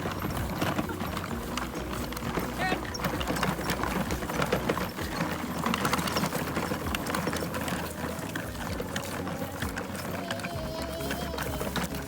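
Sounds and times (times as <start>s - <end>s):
electric toy motor whirring: 0.0s - 12.0s
plastic drivetrain clicks and rattles: 0.0s - 12.0s.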